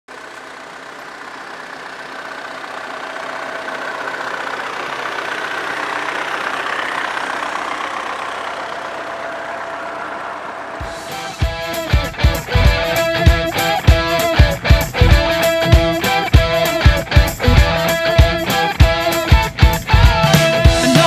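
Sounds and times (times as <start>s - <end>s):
forage harvester engine hum: 0.1s - 21.0s.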